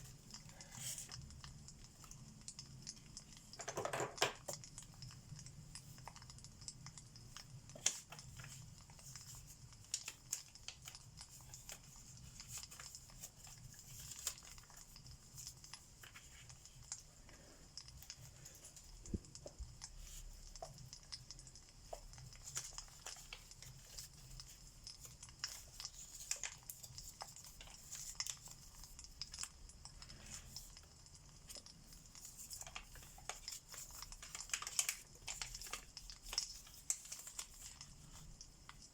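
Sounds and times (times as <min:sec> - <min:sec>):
low steady fire rumble: 0:00.0 - 0:03.6, 0:04.5 - 0:38.9
fire crackling and popping: 0:00.0 - 0:38.9.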